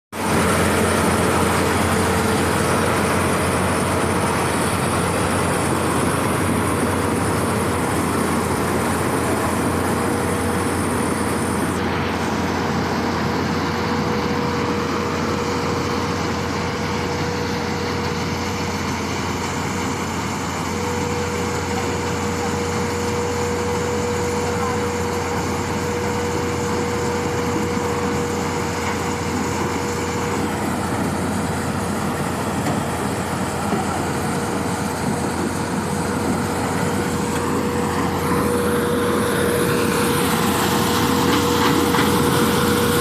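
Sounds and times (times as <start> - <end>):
threshing machine running: 0.2 - 43.0.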